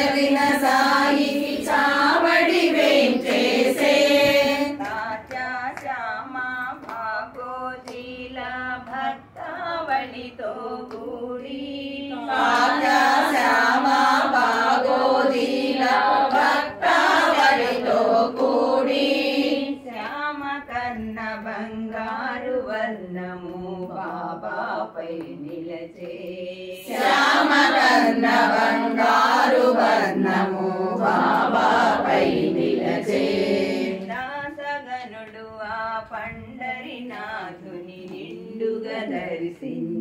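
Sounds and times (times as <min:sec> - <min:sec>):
women singing a devotional song: 0:00.0 - 0:40.0.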